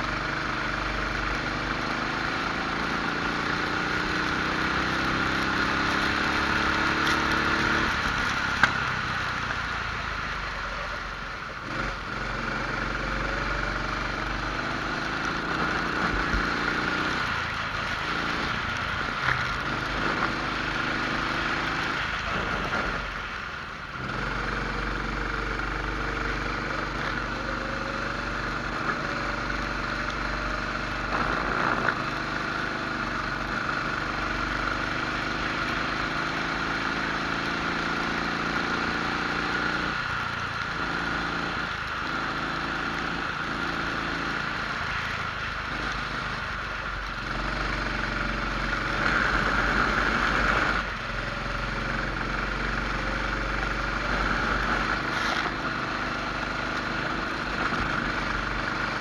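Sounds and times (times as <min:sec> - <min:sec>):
kart engine accelerating: 0:00.0 - 0:23.4, 0:24.0 - 0:59.0.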